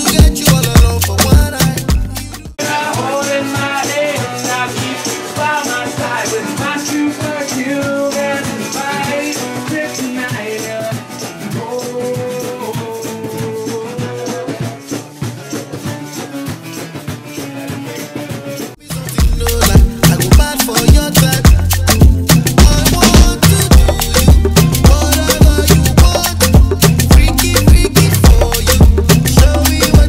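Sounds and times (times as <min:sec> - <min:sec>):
shaker beat: 0:00.0 - 0:30.0
upbeat music: 0:00.0 - 0:30.0.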